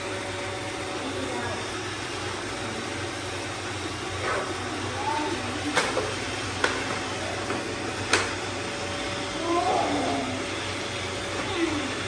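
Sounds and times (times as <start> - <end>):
robot vacuums running on tile: 0.0 - 12.0.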